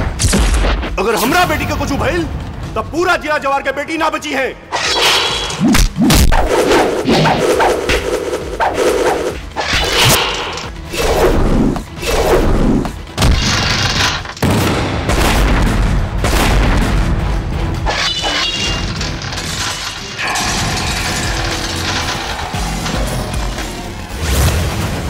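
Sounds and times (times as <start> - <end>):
dramatic music: 4.6 - 25.0.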